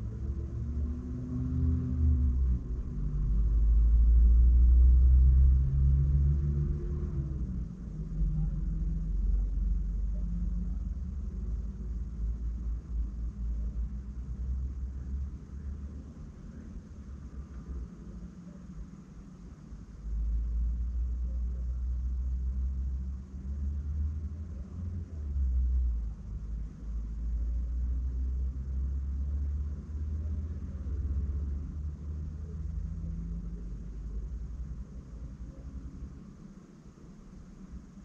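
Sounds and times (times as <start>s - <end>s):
deep rumble: 0.0s - 38.0s.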